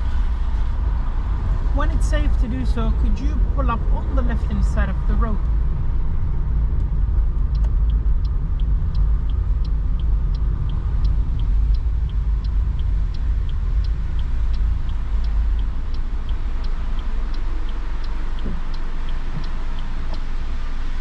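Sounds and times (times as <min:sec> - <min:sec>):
car rumbling in motion: 0:00.0 - 0:21.0
turn signal relay ticking: 0:00.0 - 0:21.0.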